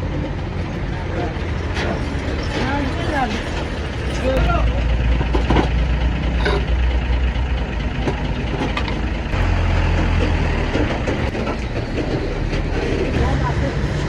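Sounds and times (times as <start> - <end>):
heavy truck engine rumble: 0.0 - 14.0.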